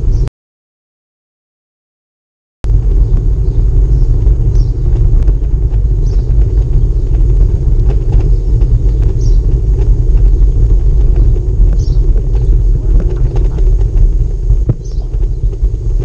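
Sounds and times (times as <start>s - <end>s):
bicycle rumbling over cobblestones: 2.7s - 16.0s
bike frame rattling: 2.9s - 16.0s.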